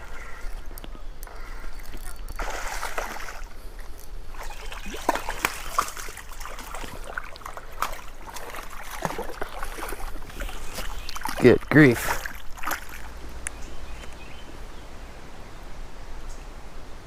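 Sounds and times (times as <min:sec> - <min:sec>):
river water splashing: 0:00.0 - 0:14.8.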